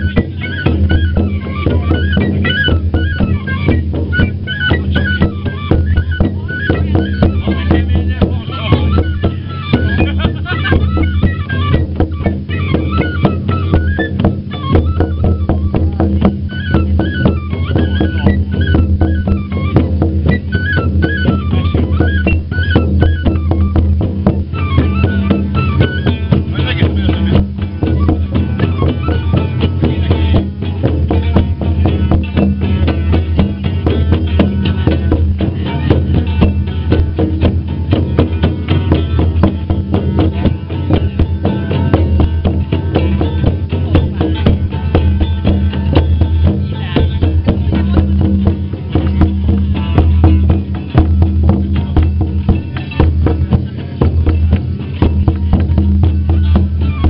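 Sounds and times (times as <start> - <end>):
rhythmic beat: 0.0 - 57.0
wooden pipe melody: 0.0 - 57.0.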